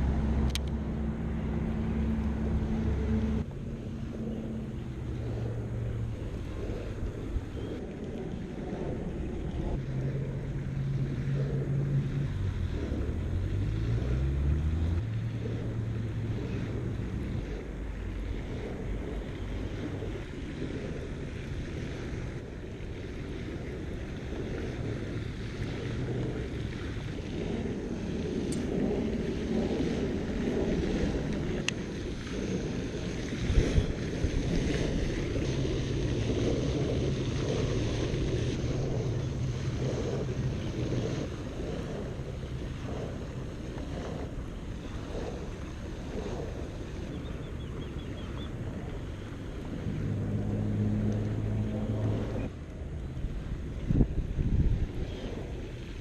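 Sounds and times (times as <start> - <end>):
low engine note: 0.0 - 56.0
wind buffeting microphone: 0.0 - 56.0.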